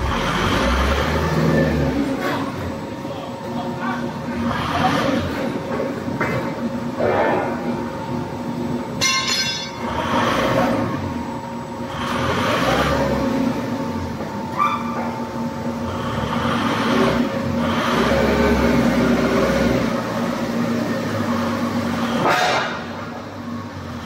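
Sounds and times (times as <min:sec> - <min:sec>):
hissing machine noise: 0:00.0 - 0:24.0.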